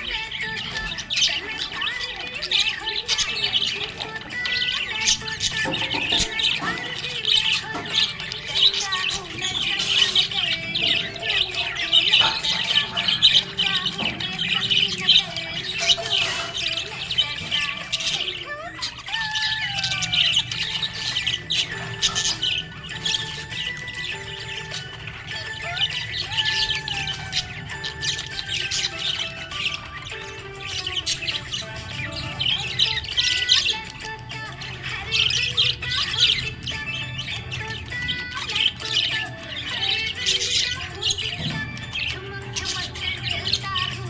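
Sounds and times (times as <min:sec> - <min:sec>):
budgerigars chirping and squawking: 0:00.0 - 0:44.0.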